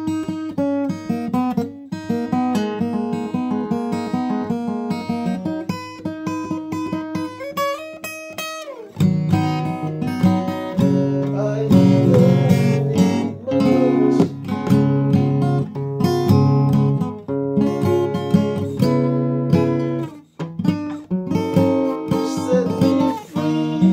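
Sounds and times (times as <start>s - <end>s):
guitar playing: 0.0s - 23.9s.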